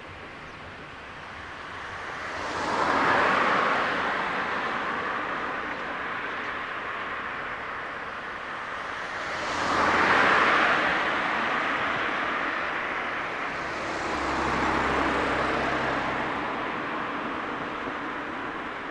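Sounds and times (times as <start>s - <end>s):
low engine hum: 0.0s - 18.9s
vehicles passing: 0.0s - 18.9s.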